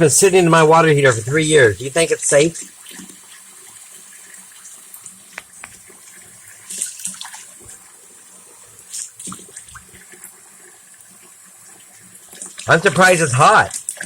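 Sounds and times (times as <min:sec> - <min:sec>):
faucet running water: 0:00.0 - 0:14.0
water splashes: 0:00.0 - 0:14.0.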